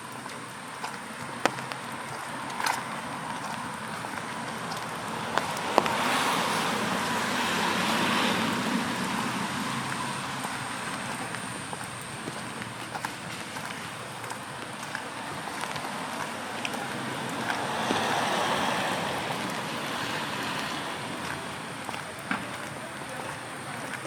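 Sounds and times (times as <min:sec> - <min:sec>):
sharp taps and drips: 0:00.0 - 0:24.0
steady rain hiss: 0:00.0 - 0:24.0.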